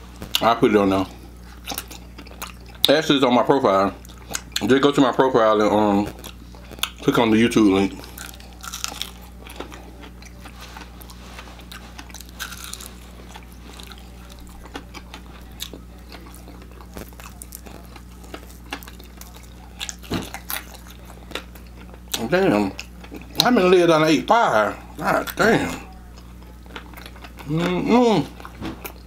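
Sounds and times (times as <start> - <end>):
crunching fried chicken: 0.1 - 29.0.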